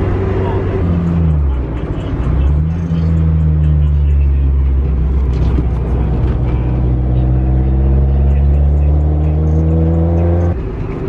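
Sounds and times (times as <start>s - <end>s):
car engine cruising: 0.0s - 11.0s.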